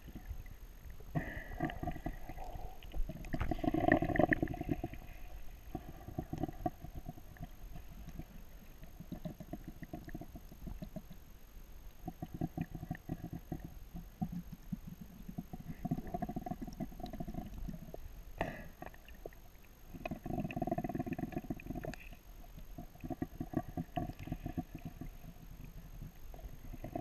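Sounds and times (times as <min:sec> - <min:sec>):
muffled gurgling snorkel breathing: 0:00.0 - 0:11.1, 0:12.1 - 0:27.0.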